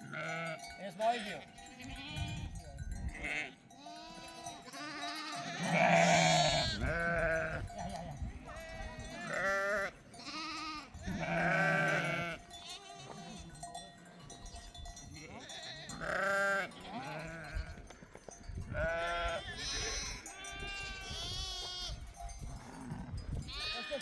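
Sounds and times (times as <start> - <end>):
sheep bleating: 0.0 - 13.6, 15.3 - 17.8, 18.7 - 24.0.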